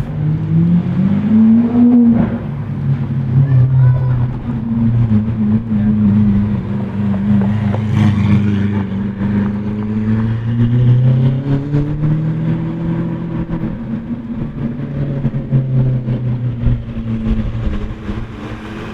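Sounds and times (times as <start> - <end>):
car engine running at low revs: 0.0 - 18.9.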